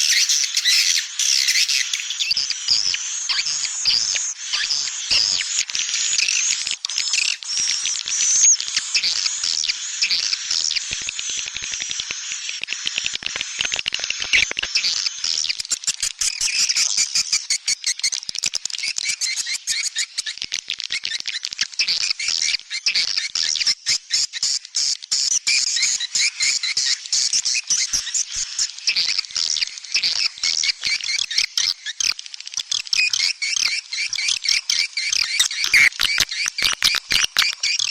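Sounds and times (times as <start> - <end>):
swiftlets twittering and chirping: 0.0 - 21.2, 24.1 - 37.9.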